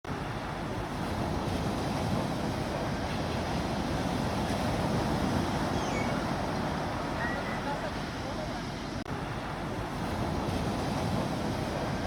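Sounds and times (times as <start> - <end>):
sea waves washing: 0.1 - 12.0.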